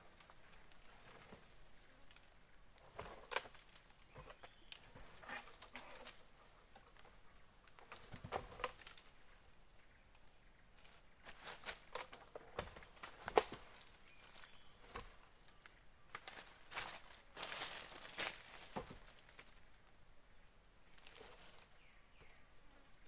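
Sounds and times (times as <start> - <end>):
rustling: 0.0 - 9.5, 10.1 - 20.0, 20.8 - 22.4.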